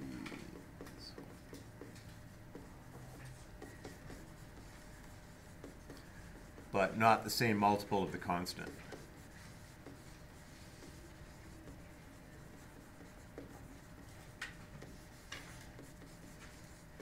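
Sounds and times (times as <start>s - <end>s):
low room hum: 0.0s - 17.0s
pen scratching while writing: 0.4s - 6.8s, 8.6s - 17.0s.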